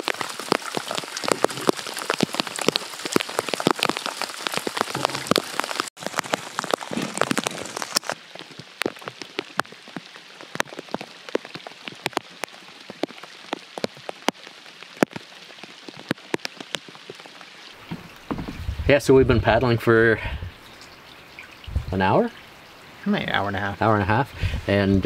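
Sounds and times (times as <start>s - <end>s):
rain pattering on water: 0.0s - 25.0s.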